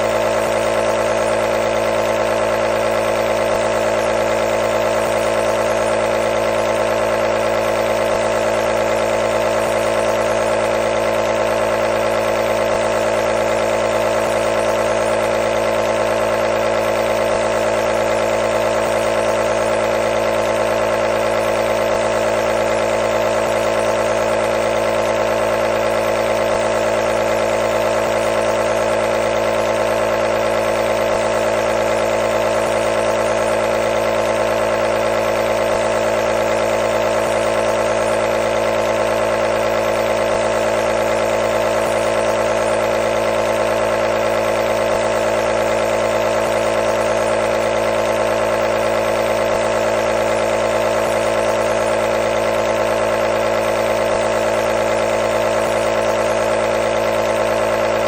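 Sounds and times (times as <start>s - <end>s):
nebulizer humming: 0.0s - 58.0s.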